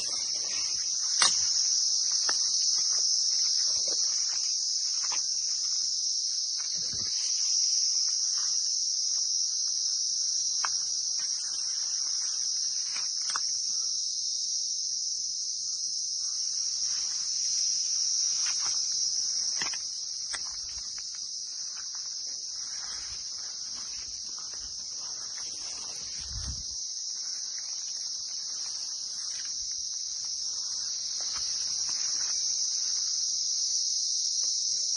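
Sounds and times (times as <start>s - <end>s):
cricket chorus: 0.0s - 34.9s.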